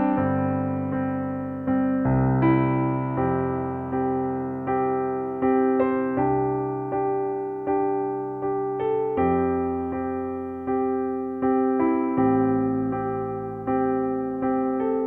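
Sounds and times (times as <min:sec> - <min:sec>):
soft electric piano chords: 0:00.0 - 0:15.0.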